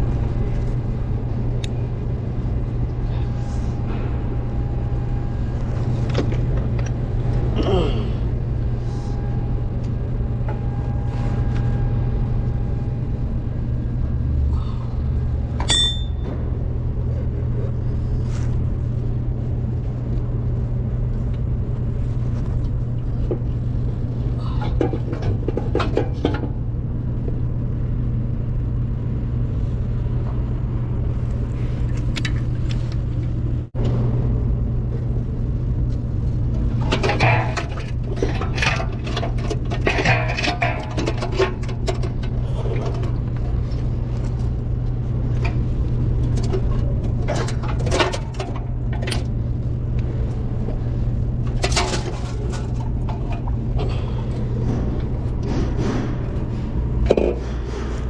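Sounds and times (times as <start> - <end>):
low motor rumble: 0.0 - 58.0.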